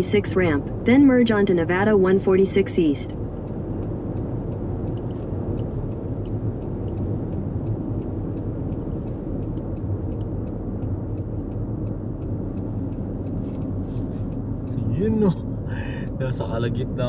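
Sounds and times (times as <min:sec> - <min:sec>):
car tyre and engine rumble: 0:00.0 - 0:17.0.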